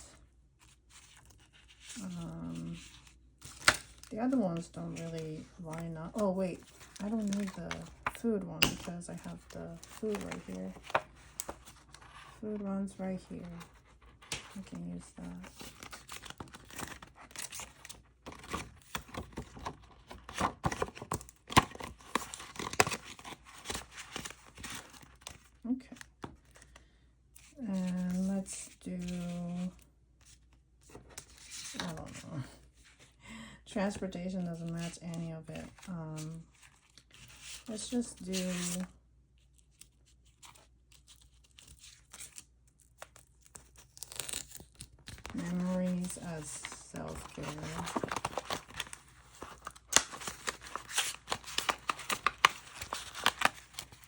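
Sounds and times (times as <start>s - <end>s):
plastic and paper rustling: 0.6s - 26.8s, 33.8s - 54.0s.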